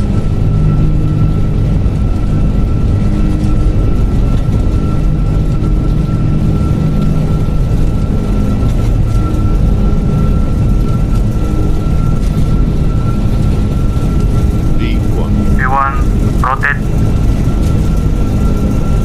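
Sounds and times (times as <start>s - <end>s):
high jet engine whine: 0.0s - 19.0s
jet engine rumble in cabin: 0.0s - 19.0s.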